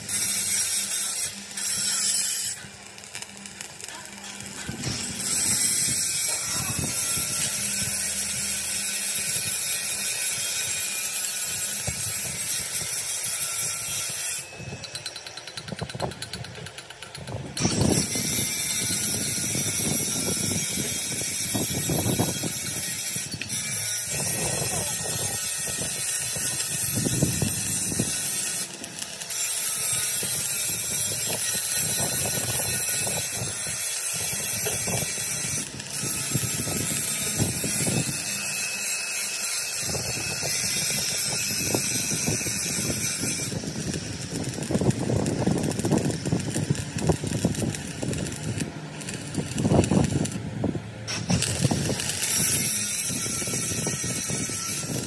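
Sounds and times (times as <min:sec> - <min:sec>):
mechanical rattling and crackling: 0:00.0 - 0:55.0.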